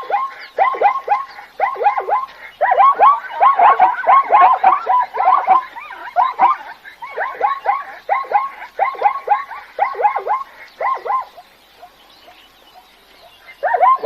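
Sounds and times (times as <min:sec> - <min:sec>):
zebra barking: 0:00.0 - 0:14.0.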